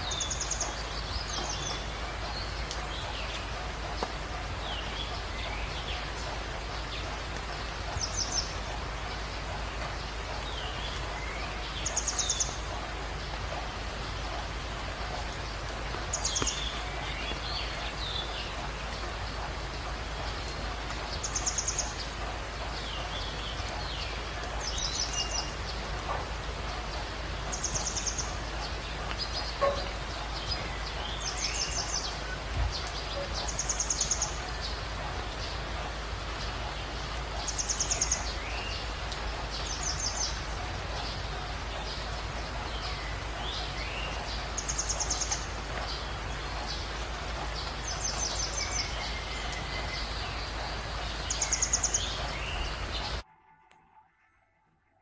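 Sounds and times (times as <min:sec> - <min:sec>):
steady hiss: 0:00.0 - 0:53.2.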